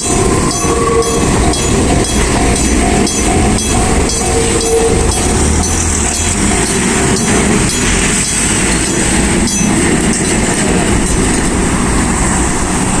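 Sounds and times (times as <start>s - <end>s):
crossing bell ringing: 0.0s - 11.9s
train wheels on rails: 0.0s - 13.0s.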